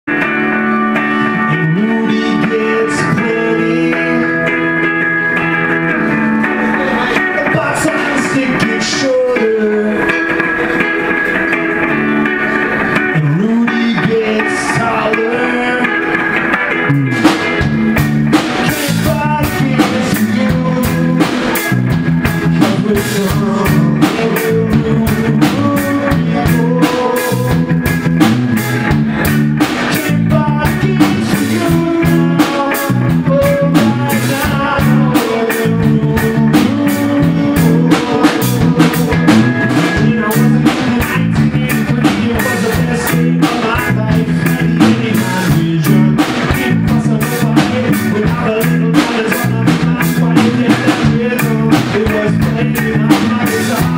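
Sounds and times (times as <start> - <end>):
electric guitars: 0.0 - 53.9
drum kit beat: 0.1 - 53.9
man singing: 0.1 - 53.9.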